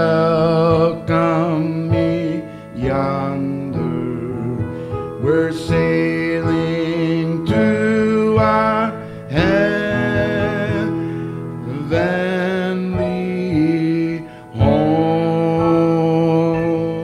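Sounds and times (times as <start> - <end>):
man singing gospel: 0.0 - 17.0
piano accompaniment: 0.0 - 17.0.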